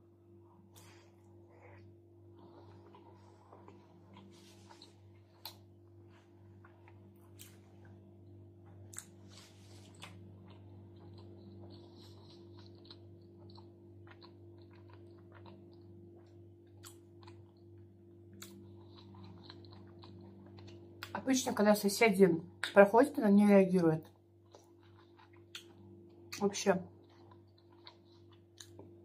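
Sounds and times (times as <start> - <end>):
steady low hum: 0.0 - 29.0
person chewing food: 0.4 - 21.2, 24.1 - 29.0.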